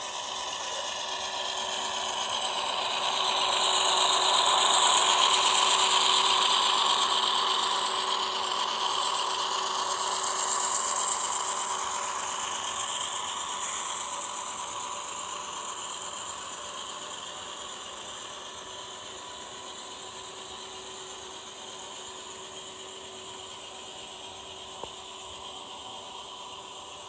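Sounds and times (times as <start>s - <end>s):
model train rattling on track: 0.0s - 27.0s.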